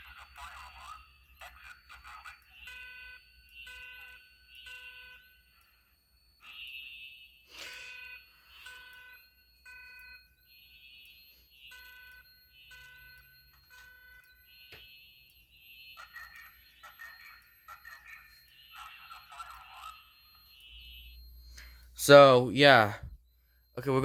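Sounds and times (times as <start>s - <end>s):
fire alarm evacuation beeps: 0.0s - 24.0s.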